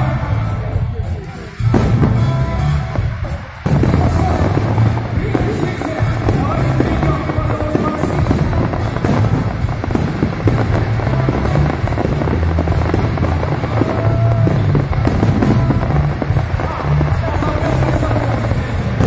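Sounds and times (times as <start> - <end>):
fireworks bursting and crackling: 0.0 - 19.0
loud music: 0.0 - 19.0.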